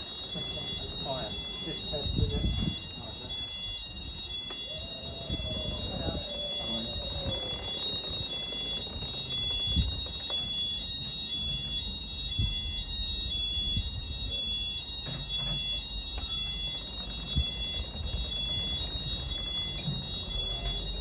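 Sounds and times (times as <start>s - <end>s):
high-pitched fire alarm tone: 0.0s - 21.0s
pulsing alarm tone: 0.0s - 21.0s.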